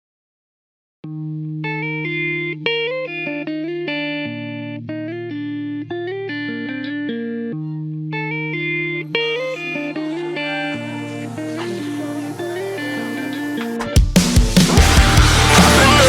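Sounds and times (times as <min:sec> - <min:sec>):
electric guitar melody: 0:01.0 - 0:16.0.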